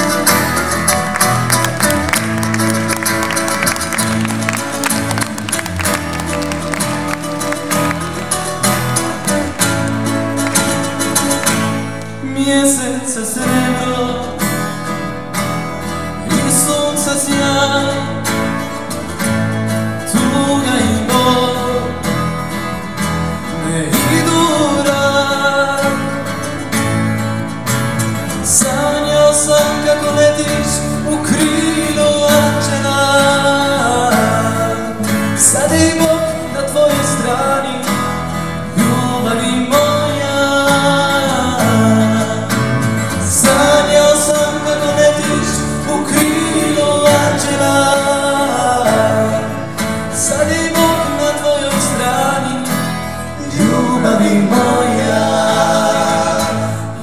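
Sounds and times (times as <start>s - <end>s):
acoustic guitar: 0.0s - 57.0s
double bass: 0.0s - 57.0s.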